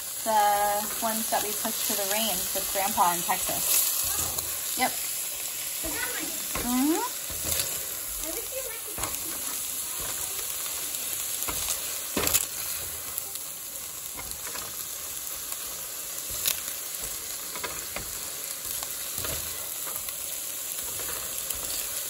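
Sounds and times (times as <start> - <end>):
tofu sizzling in a skillet: 0.0 - 22.0.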